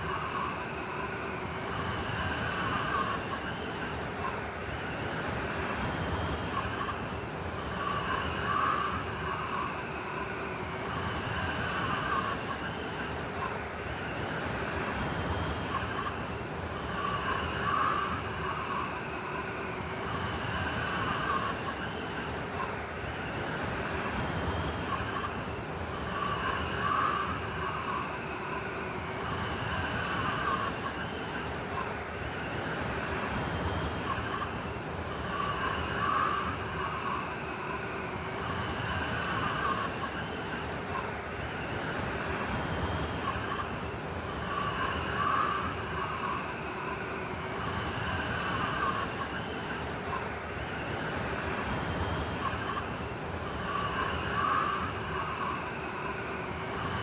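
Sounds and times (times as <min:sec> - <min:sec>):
wind whistling howl: 0:06.4 - 0:57.0.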